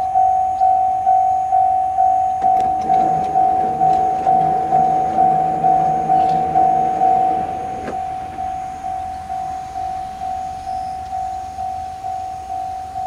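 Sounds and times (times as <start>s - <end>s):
level crossing alarm bell ringing: 0.0s - 13.0s
low steady drone: 2.3s - 13.0s.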